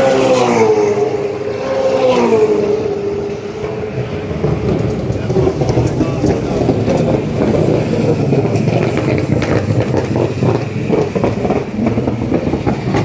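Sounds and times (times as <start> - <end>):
race car engine driving past: 0.0 - 13.0.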